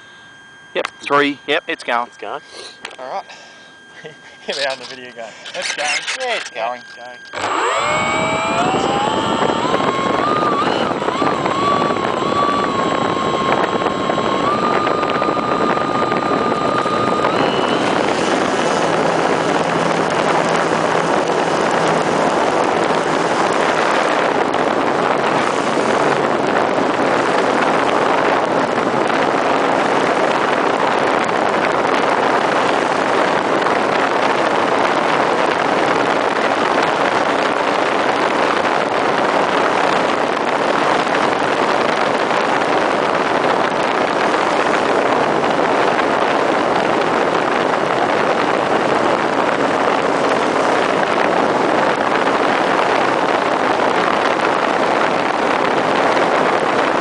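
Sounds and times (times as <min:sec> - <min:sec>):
electric motor whine: 0:00.0 - 0:57.0
propeller and airflow rushing: 0:00.0 - 0:57.0.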